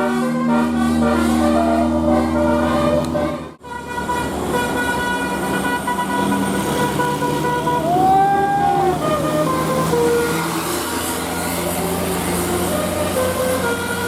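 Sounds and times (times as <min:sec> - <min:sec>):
musical bus air horn: 0:00.0 - 0:14.0.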